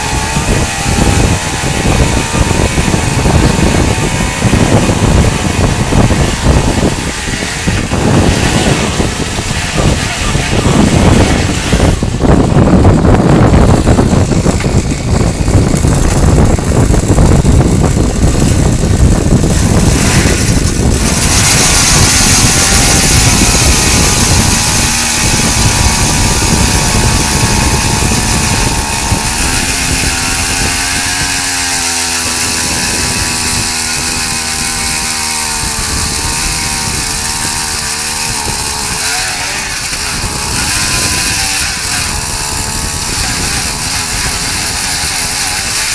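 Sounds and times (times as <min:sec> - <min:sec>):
auger grinding through ice: 0:00.0 - 0:45.9
ice auger engine running: 0:00.0 - 0:45.9.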